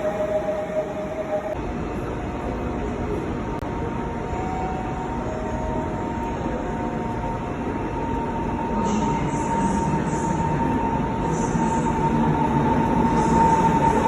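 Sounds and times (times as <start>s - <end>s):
high whine from train wheels: 0.0s - 14.0s.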